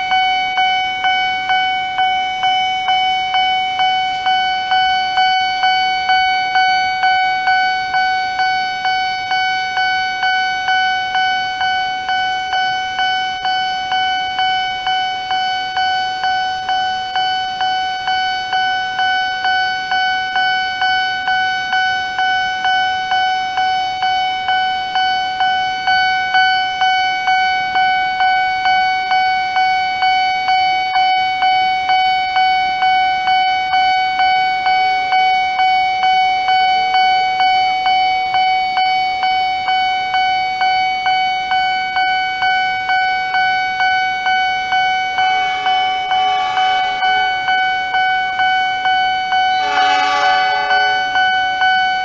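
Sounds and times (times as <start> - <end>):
level crossing alarm ringing: 0.0 - 52.0.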